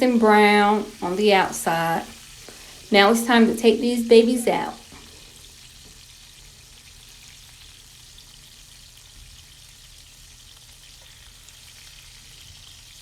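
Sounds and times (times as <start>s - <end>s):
patties sizzling in a pan: 0.0s - 13.0s.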